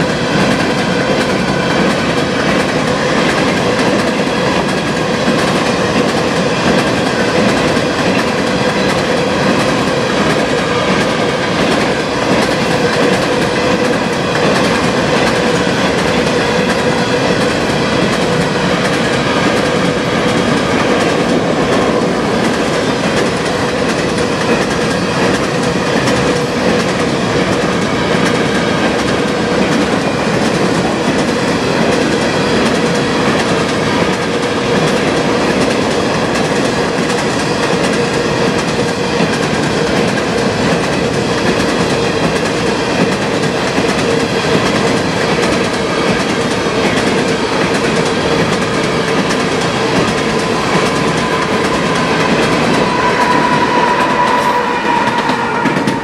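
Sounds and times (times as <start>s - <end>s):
diesel locomotive passing: 0.0s - 56.0s
freight train rolling past: 0.0s - 56.0s.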